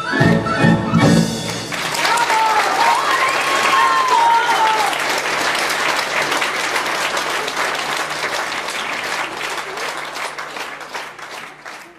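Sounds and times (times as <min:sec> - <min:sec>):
audience applauding: 0:01.4 - 0:11.9.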